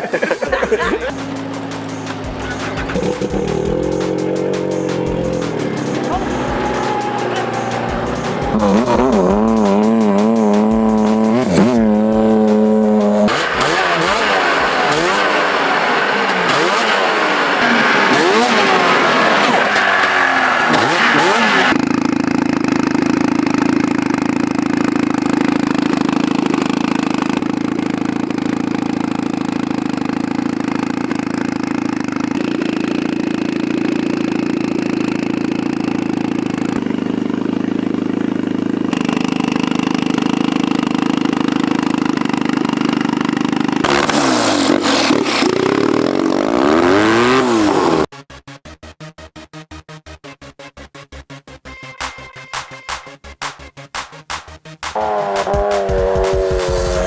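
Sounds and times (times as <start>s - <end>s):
snowmobile engines revving: 0.0s - 48.1s, 53.4s - 57.0s
engine running at steady pitch: 0.0s - 57.0s.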